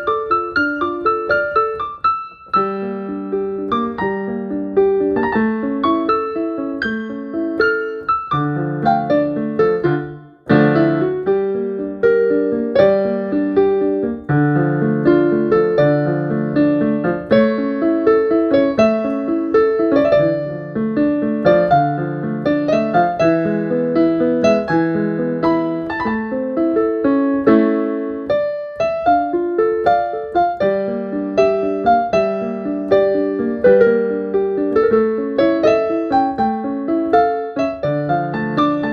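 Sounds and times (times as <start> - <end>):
solo piano melody: 0.0 - 38.9.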